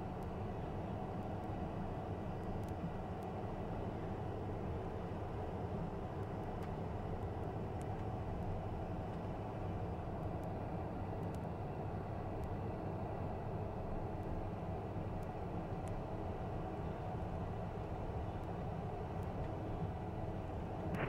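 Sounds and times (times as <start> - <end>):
jet engines idling hum: 0.0 - 21.0.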